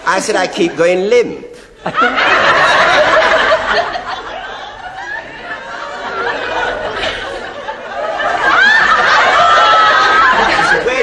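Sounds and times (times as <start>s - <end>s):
studio audience laughing: 1.6s - 11.0s.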